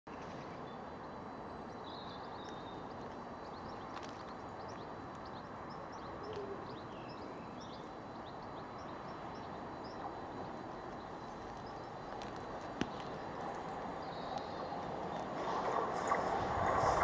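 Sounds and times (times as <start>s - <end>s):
low background noise: 0.1s - 17.0s
small birds chirping: 0.1s - 17.0s.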